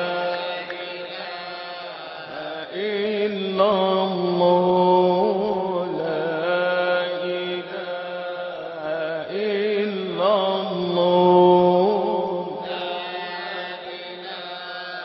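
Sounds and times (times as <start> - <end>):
chanting with held vocal notes: 0.0 - 15.0.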